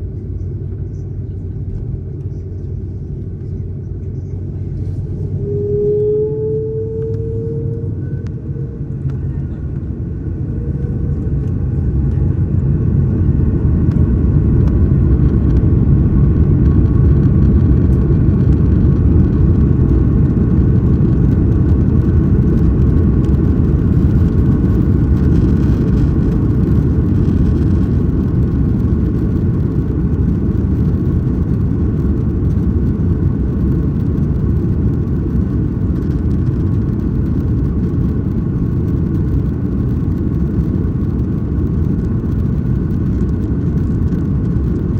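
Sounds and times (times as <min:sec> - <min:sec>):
faint engine whine: 0:00.0 - 0:44.9
jet engines rumbling: 0:00.0 - 0:44.9.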